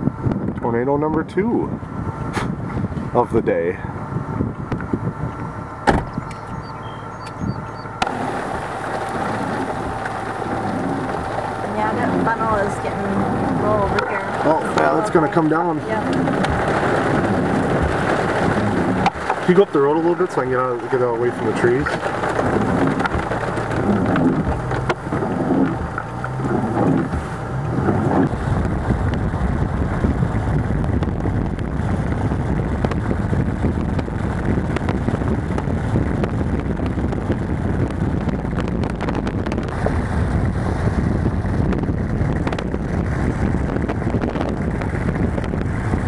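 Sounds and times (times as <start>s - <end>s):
wind buffeting microphone: 0.0s - 46.0s
wavering hum: 3.9s - 46.0s.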